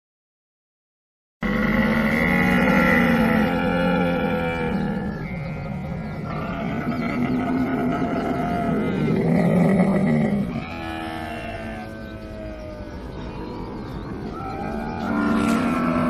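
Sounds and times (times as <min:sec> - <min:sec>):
camel calling: 0:01.4 - 0:16.0.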